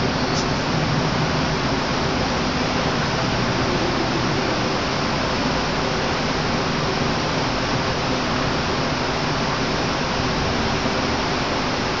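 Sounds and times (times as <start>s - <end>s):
subway platform rushing noise: 0.0s - 12.0s.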